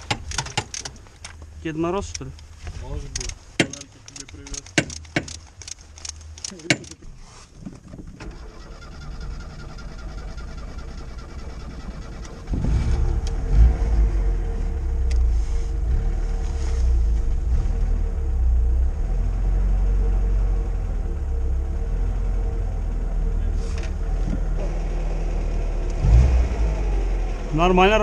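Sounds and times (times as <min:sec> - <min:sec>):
car engine starting and idling: 0:00.0 - 0:28.0.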